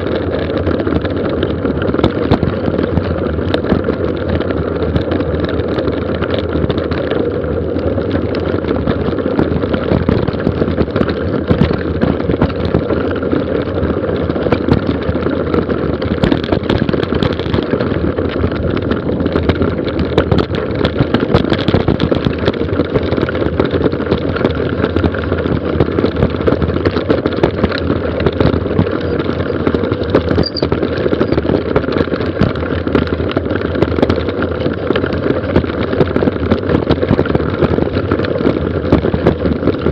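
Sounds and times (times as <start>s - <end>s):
bike rattling: 0.0s - 39.9s
bike tyres on loose stones: 0.0s - 39.9s
wind buffeting microphone: 0.0s - 39.9s.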